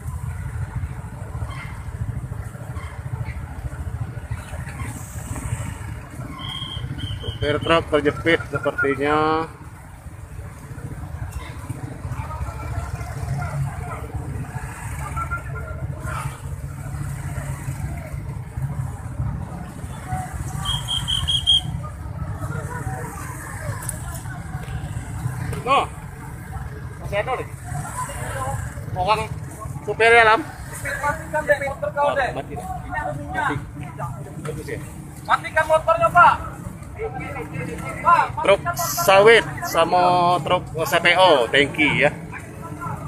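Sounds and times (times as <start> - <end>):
motorcycle engines idling: 0.0 - 43.0.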